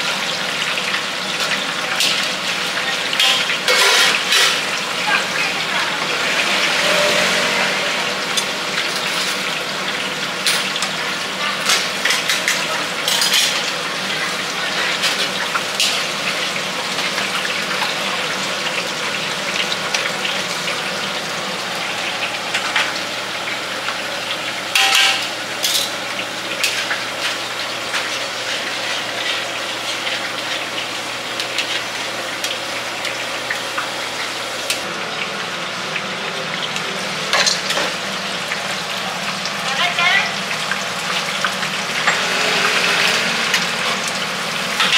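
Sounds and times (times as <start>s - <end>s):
food deep-frying in oil: 0.0s - 44.9s.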